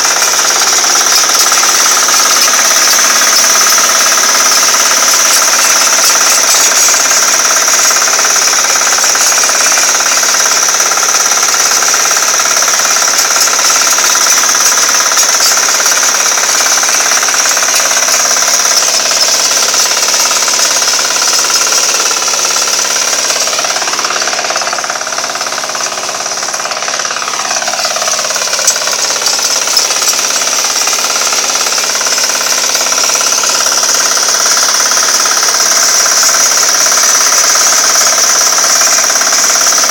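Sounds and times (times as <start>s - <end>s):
diesel engine hammering: 0.0s - 39.9s
rotary tiller churning soil: 0.0s - 39.9s.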